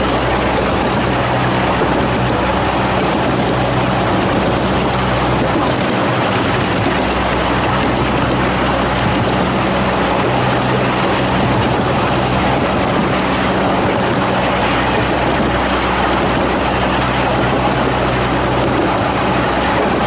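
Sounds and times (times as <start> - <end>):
miniature railway cars rumbling: 0.0 - 20.0.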